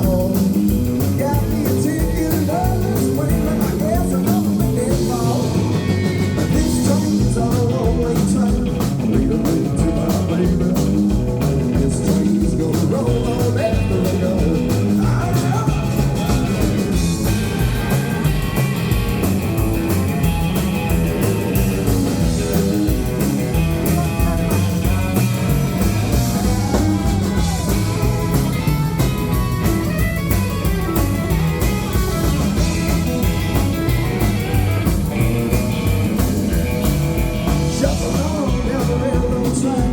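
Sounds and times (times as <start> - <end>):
live rock and roll band: 0.0 - 39.9.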